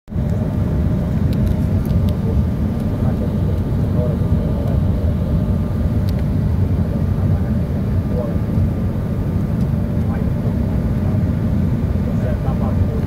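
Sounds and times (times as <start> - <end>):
airliner engine rumble: 0.1 - 13.0.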